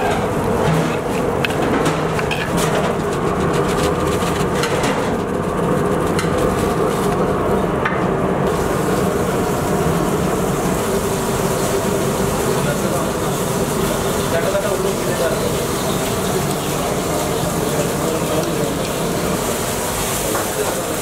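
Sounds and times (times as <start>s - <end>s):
kitchen ventilation roar: 0.0s - 21.0s
low mechanical hum: 0.0s - 21.0s.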